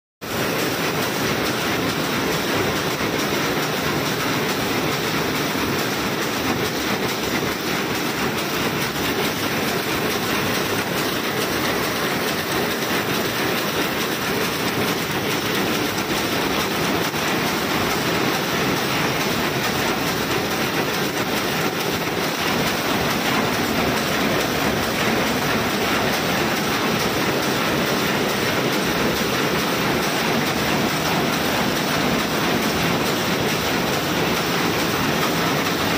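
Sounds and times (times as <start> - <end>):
loom clattering: 0.2 - 35.9.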